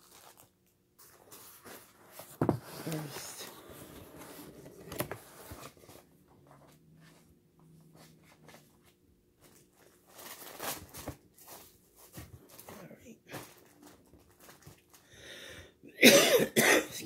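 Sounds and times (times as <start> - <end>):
cardboard packaging rustling: 0.0 - 7.2, 7.9 - 15.0.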